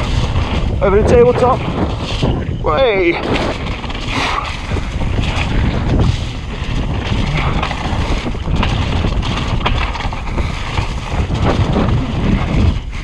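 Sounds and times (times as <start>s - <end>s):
bike knocking and rattling: 0.0s - 13.0s
rumble of bike tyres on dirt: 0.0s - 13.0s
wind buffeting microphone: 0.0s - 13.0s.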